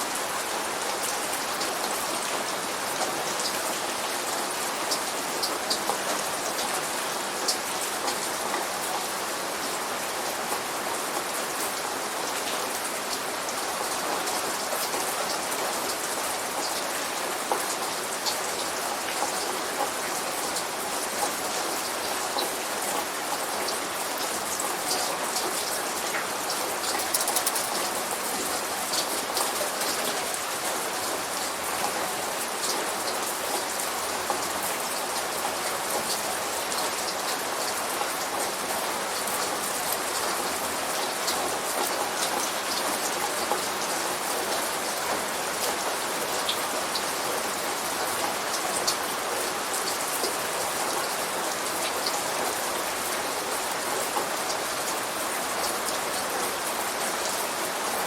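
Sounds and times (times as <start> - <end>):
light rain on a hard surface: 0.0 - 58.0.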